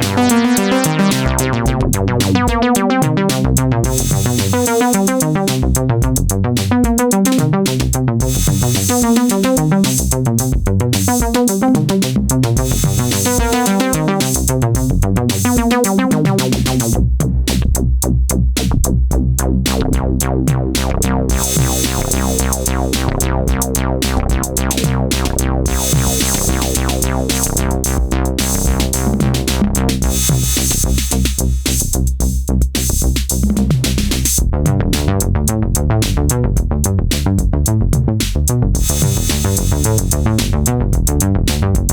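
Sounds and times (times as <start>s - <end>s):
deep sustained low bass: 0.0s - 41.9s
drum machine beat: 0.0s - 41.9s
synthesizer bass sequence: 0.0s - 41.9s.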